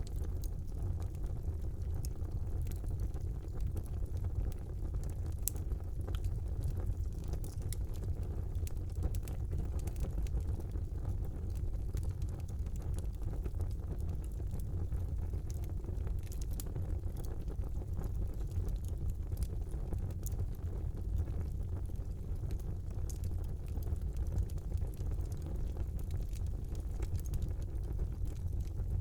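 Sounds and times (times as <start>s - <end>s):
logs crackling and popping: 0.0s - 29.0s
low rumble of flames: 0.0s - 29.0s.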